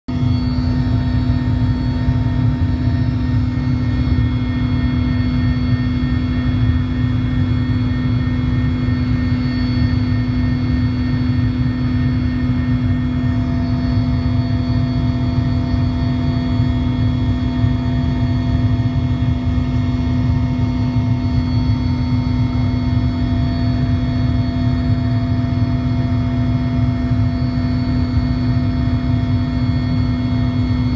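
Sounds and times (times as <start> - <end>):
helicopter cabin drone: 0.1 - 30.9.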